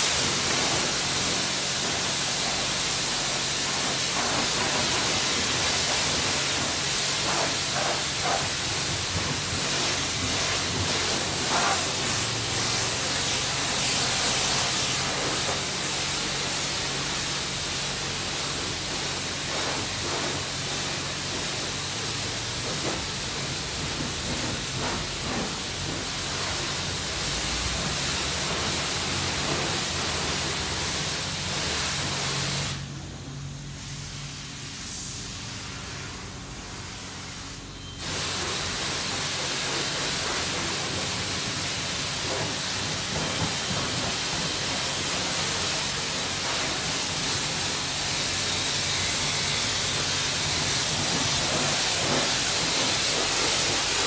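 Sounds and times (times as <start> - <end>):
pressure washer spray hissing: 0.0 - 54.0.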